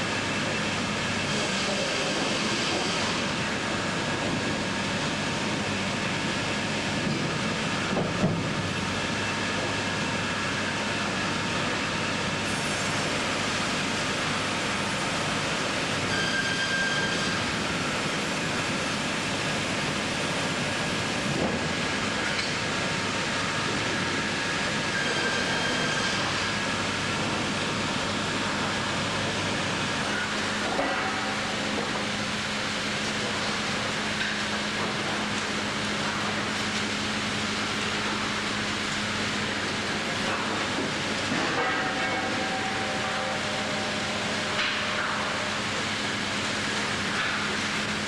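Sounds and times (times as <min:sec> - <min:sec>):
sawmill machinery running: 0:00.0 - 0:48.0.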